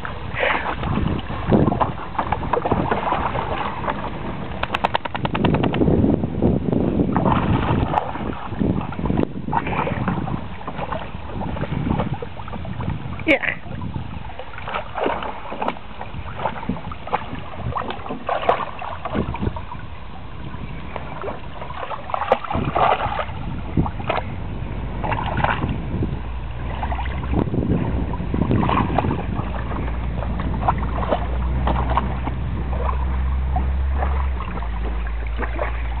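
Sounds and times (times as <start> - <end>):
shallow water splashing: 0.0 - 6.1, 6.9 - 36.0
low steady rumble: 0.0 - 36.0.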